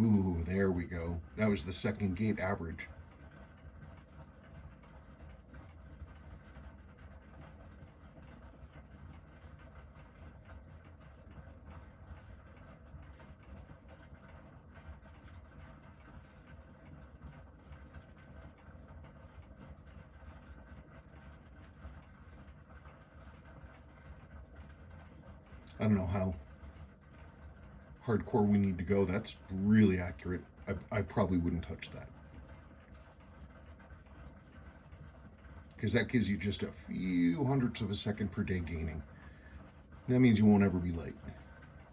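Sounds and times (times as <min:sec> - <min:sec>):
faint watch ticking: 0:00.0 - 0:41.9
low steady hum: 0:00.0 - 0:41.9.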